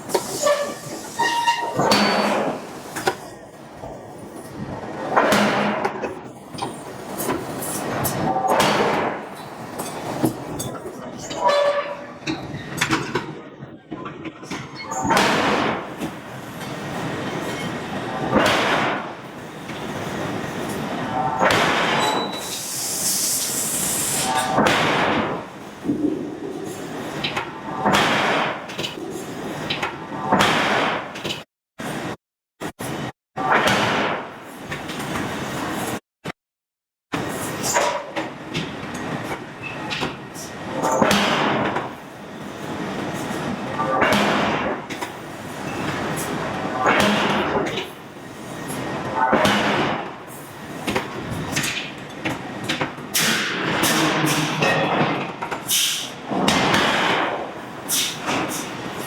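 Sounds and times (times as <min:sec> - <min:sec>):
shop noise: 0:00.0 - 0:36.4, 0:37.1 - 0:59.0.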